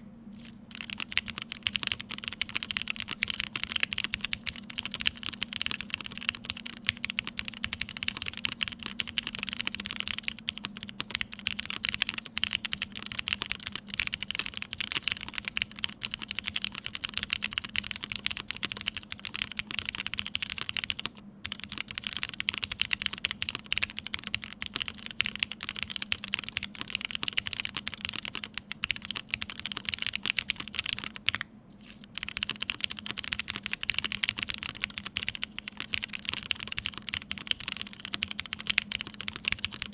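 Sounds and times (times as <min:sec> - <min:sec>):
faint steady hum: 0:00.0 - 0:39.9
mechanical keyboard typing: 0:00.7 - 0:39.9.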